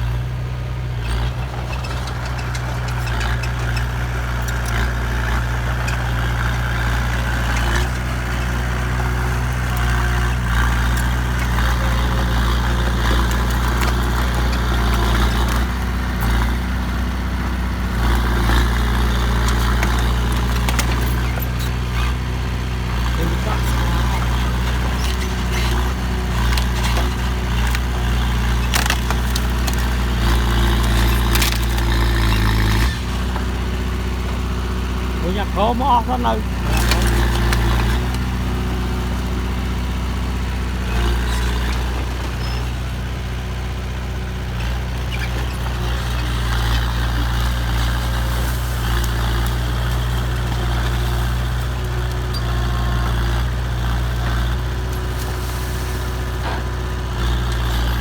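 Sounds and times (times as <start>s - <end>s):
heavy vehicle engine humming: 0.0s - 58.0s.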